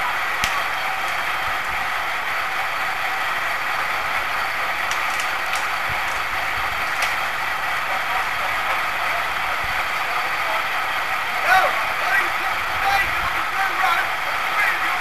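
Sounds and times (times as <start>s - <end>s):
engine running drone: 0.0s - 15.0s.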